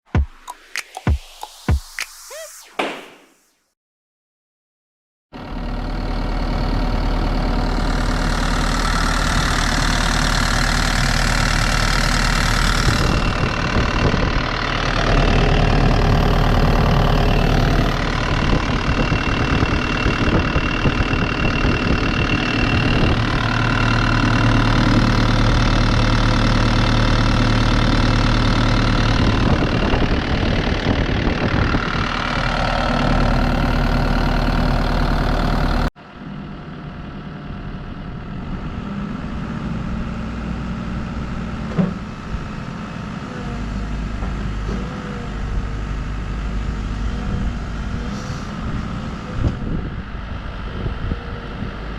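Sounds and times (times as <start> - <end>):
excavator diesel engine running: 5.4 - 51.9.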